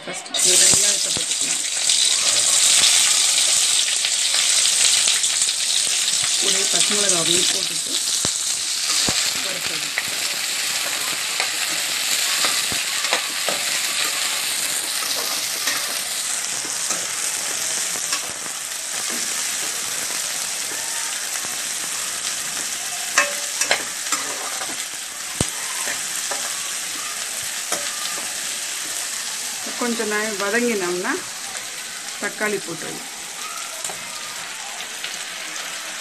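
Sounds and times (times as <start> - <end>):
onions sizzling in hot oil: 0.1 - 36.0.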